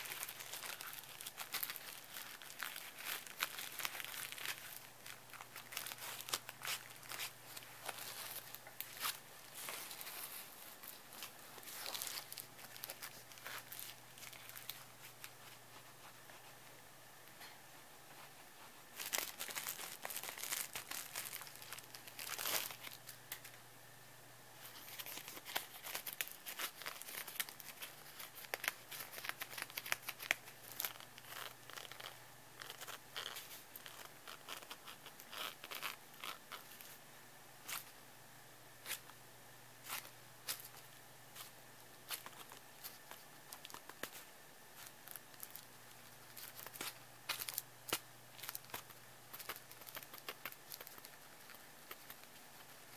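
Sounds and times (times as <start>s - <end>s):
cellophane crinkling: 0.0s - 16.5s, 18.2s - 23.6s, 24.6s - 37.0s, 39.8s - 52.9s.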